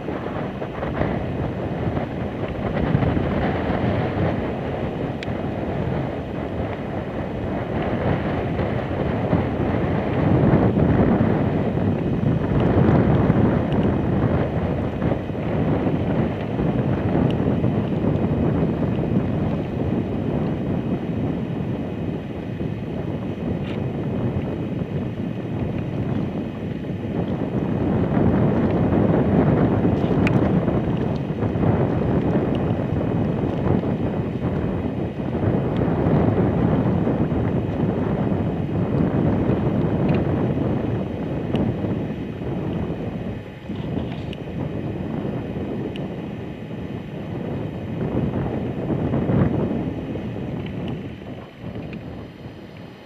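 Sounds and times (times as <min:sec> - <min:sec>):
wind blowing across microphone: 0:00.0 - 0:53.0.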